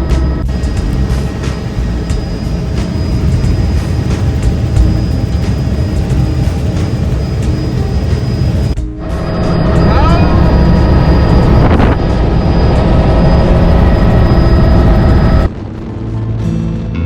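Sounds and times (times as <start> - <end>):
high turbine whine: 0.0 - 16.8
helicopter engine and rotor: 0.1 - 16.7.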